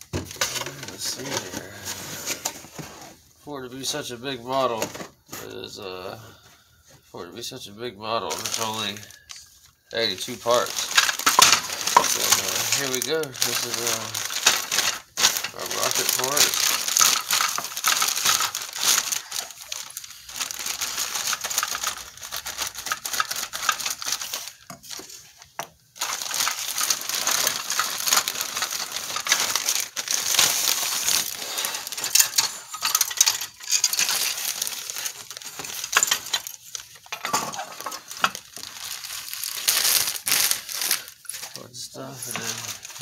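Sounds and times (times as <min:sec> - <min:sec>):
plastic parts clicking and clattering: 0:00.0 - 0:02.9, 0:08.3 - 0:43.0
plastic bag crinkling: 0:00.0 - 0:03.1, 0:08.0 - 0:43.0.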